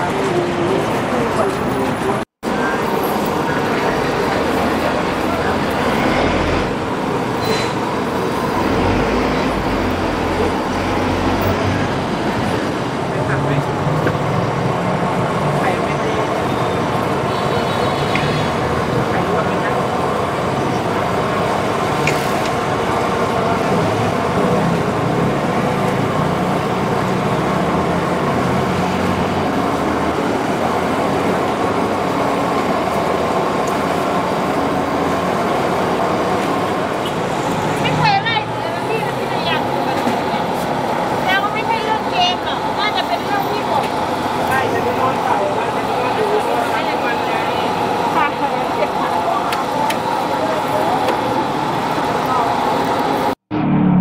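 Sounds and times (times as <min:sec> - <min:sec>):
street traffic rumble: 0:00.0 - 0:54.0.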